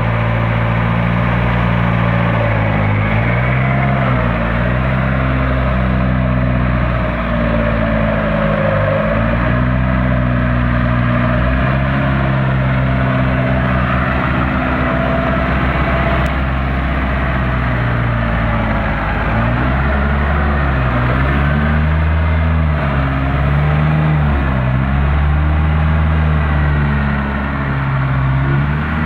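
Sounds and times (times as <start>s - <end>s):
forklift engine running: 0.0s - 29.0s.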